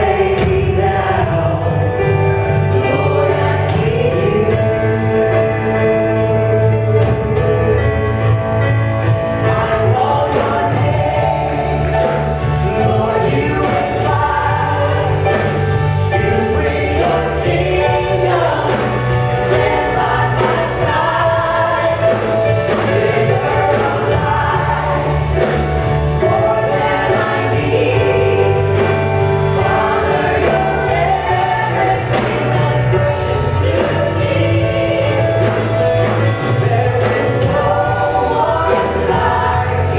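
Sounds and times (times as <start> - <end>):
choir singing with band: 0.0 - 39.9.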